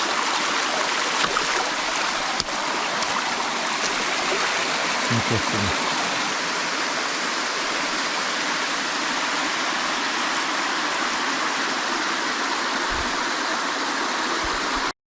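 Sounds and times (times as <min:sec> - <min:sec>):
water rushing down rocks: 0:00.0 - 0:14.9.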